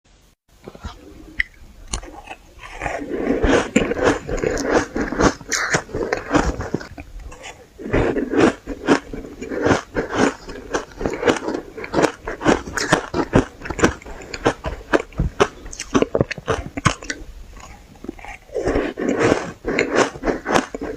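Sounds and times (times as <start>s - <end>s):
chewing crunchy shaved ice: 0.8s - 20.9s.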